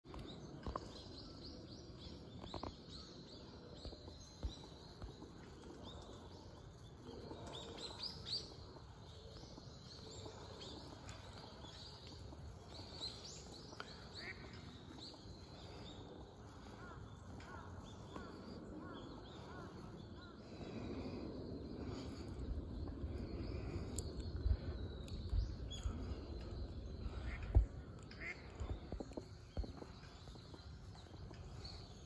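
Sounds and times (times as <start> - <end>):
outdoor background noise: 0.0 - 32.0
small birds chirping: 0.1 - 32.0.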